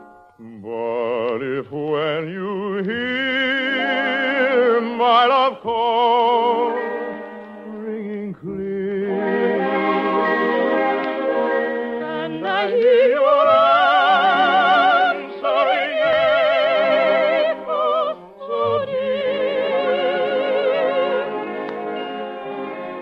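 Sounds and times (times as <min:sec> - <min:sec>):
soprano singing with vibrato: 0:00.4 - 0:21.8
orchestra playing: 0:03.4 - 0:23.0.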